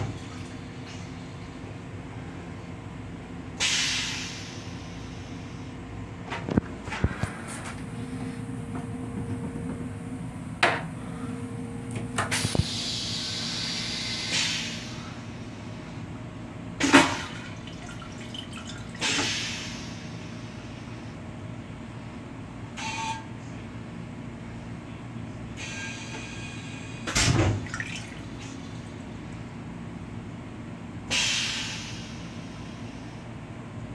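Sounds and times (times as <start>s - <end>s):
railcar running hum: 0.0s - 27.3s, 27.9s - 33.9s.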